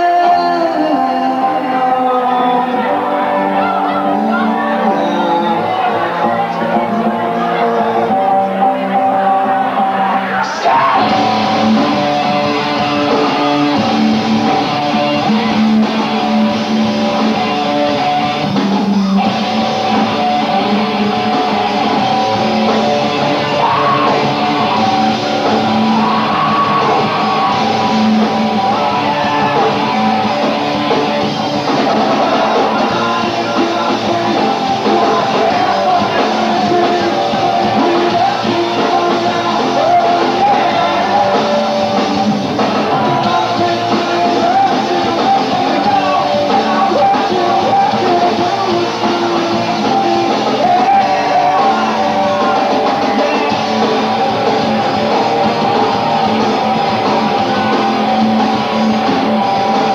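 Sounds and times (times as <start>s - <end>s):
live rock band playing: 0.0s - 59.9s
person singing: 0.0s - 59.9s.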